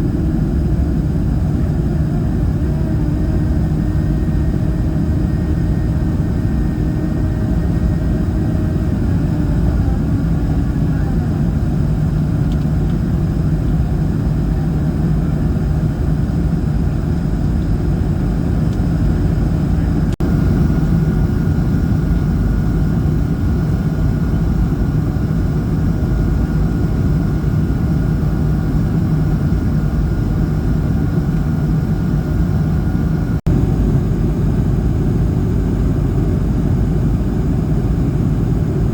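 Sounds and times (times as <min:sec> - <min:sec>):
jet engine drone in cabin: 0:00.0 - 0:38.9
thin steady whine: 0:00.0 - 0:38.9.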